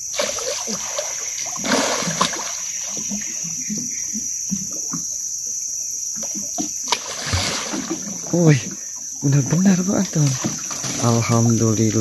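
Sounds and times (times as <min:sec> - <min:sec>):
fish thrashing and splashing water: 0:00.0 - 0:04.8, 0:06.2 - 0:12.0
insects chirring: 0:00.0 - 0:12.0.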